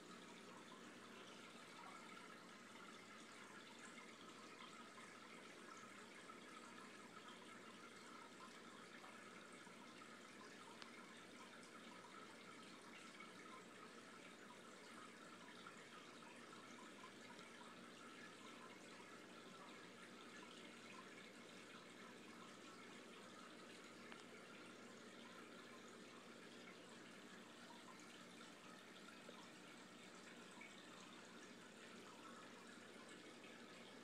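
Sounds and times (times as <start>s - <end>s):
faint water trickling: 0.0s - 34.0s.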